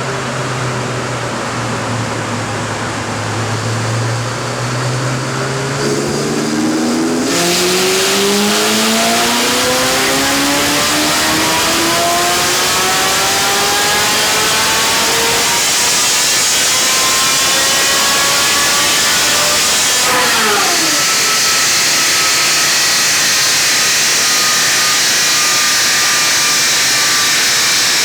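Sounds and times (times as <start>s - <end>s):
car engine revving on dyno: 0.0s - 28.0s.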